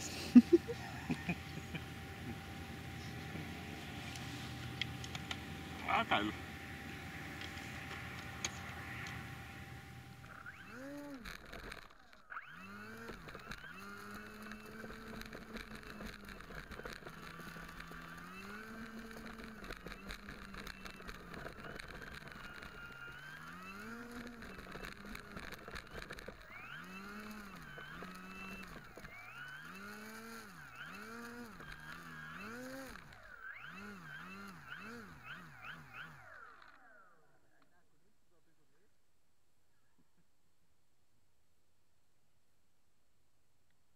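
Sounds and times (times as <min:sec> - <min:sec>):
model plane motor whining: 0:00.0 - 0:37.4.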